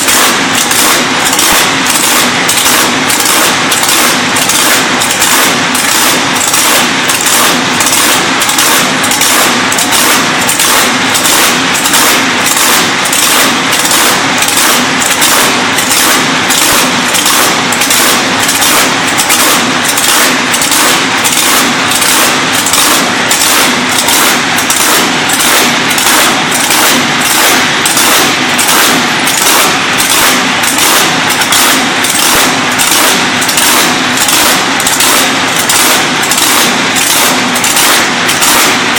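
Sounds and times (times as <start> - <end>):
loud rough boat engine idling: 0.0 - 38.9.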